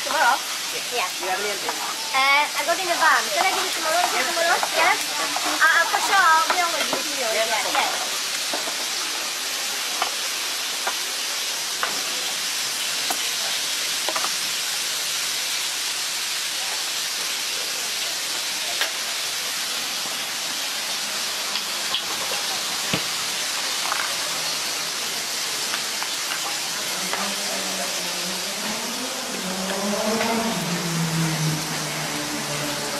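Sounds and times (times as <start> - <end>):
sausages and onions sizzling: 0.0 - 32.9.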